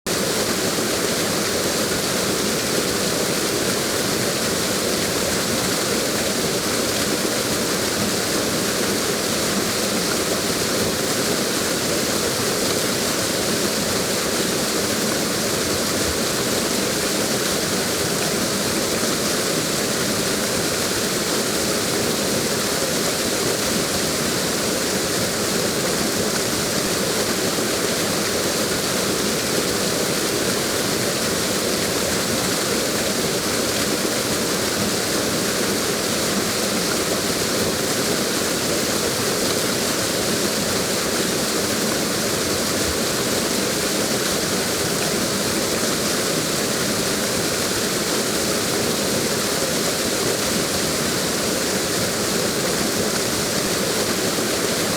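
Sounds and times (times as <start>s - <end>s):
waterfall rushing: 0.1s - 54.9s.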